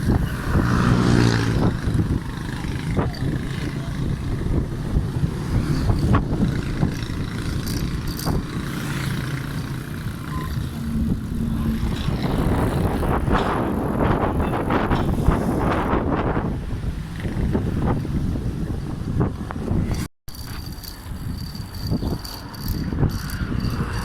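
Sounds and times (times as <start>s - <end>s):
road traffic: 0.0s - 24.0s
wind rumbling on microphone: 0.0s - 24.0s.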